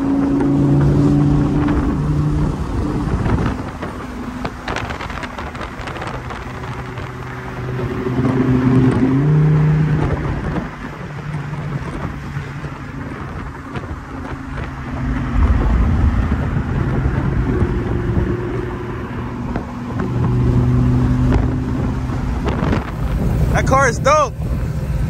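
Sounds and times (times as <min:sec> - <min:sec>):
car engine running: 0:00.0 - 0:25.0
road noise: 0:00.0 - 0:25.0
rushing wind: 0:00.0 - 0:25.0.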